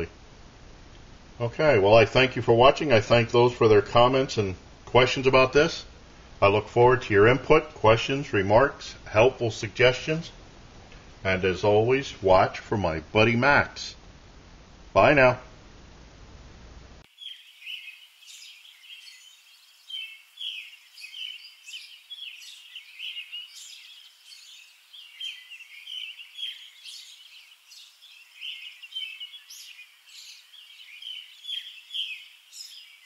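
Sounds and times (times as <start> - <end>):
songbirds chirping: 1.7 - 14.0, 17.0 - 33.0.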